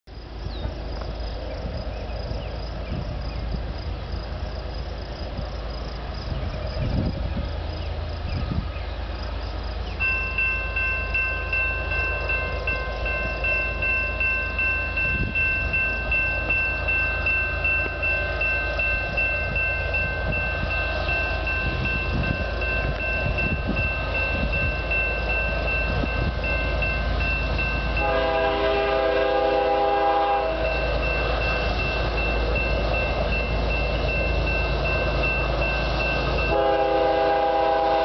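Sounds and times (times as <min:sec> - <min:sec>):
crossing warning bell ringing: 0:06.0 - 0:38.0.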